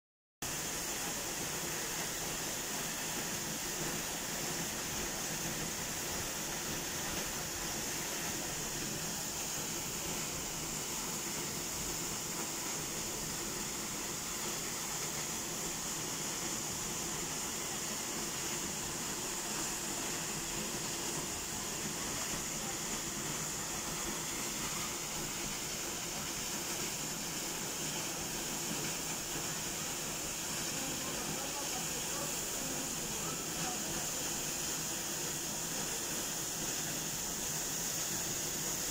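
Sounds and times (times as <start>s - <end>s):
waterfall rushing onto rocks: 0.5s - 38.9s.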